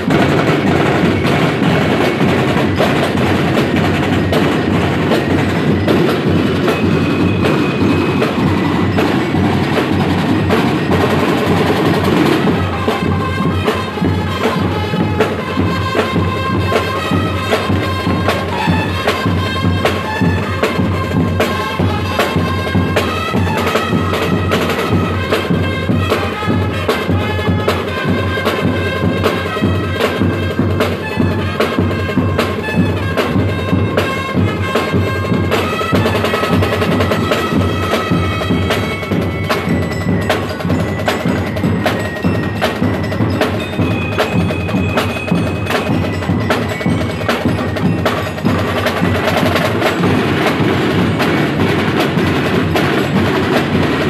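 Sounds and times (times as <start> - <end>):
bell-like ringing melody: 0.0 - 54.0
drum line playing fast rhythm: 0.0 - 54.0.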